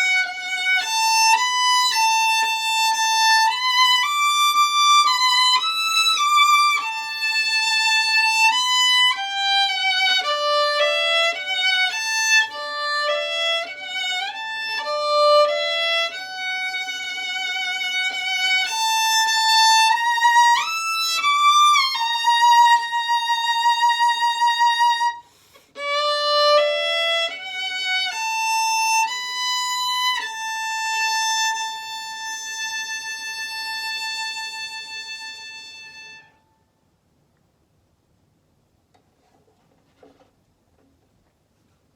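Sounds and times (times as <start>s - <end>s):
violin playing slow melody: 0.0s - 36.6s.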